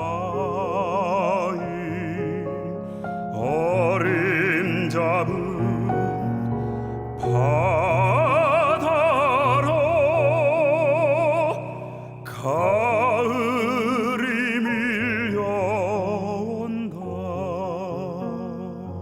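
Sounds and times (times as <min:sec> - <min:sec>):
baritone singing with vibrato: 0:00.0 - 0:19.0
piano playing: 0:00.0 - 0:19.0.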